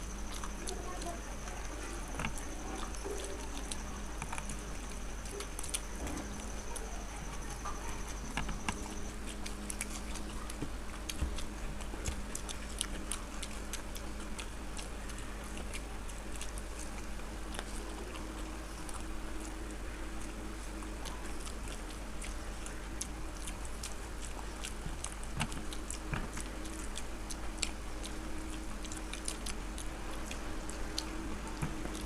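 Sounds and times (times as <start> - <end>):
people chewing food: 0.0 - 32.0
steady low hum: 0.0 - 32.0.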